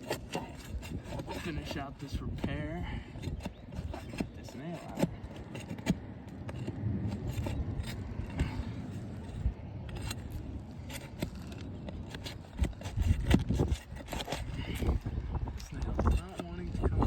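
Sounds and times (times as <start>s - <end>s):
metal scraping on shingles: 0.0s - 17.0s.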